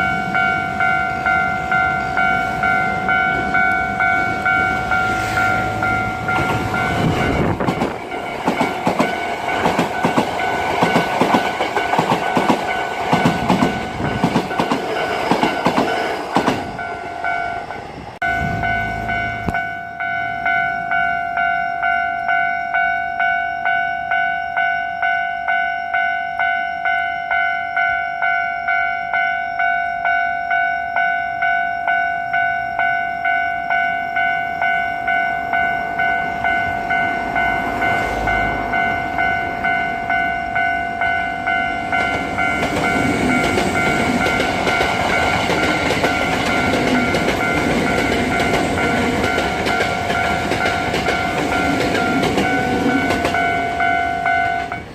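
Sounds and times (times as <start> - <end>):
electric train passing: 0.0 - 54.9
level crossing bell ringing: 0.0 - 54.9.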